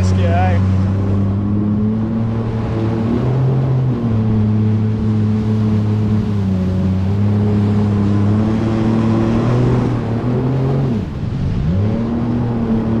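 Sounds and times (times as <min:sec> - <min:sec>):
jet ski engine running: 0:00.0 - 0:13.0
water and wind rushing: 0:00.0 - 0:13.0.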